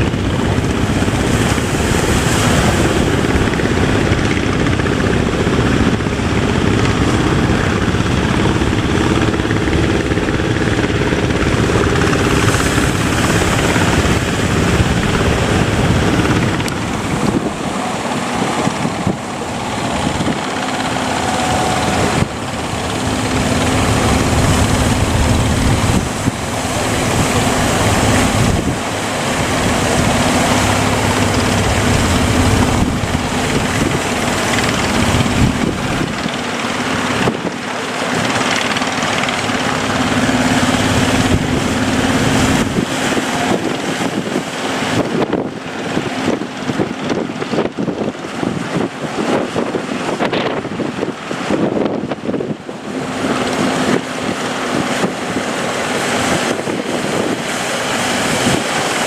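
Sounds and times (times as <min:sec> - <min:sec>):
boat engine running: 0:00.0 - 0:59.0
water noise: 0:00.0 - 0:59.0
wind: 0:00.0 - 0:59.0.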